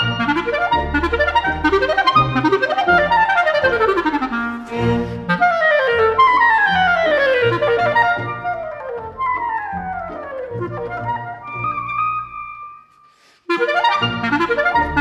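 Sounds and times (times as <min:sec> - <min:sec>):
clarinet playing fast scale runs: 0:00.0 - 0:04.6, 0:05.2 - 0:12.9, 0:13.5 - 0:15.0
string orchestra chords: 0:00.0 - 0:12.8, 0:13.5 - 0:15.0.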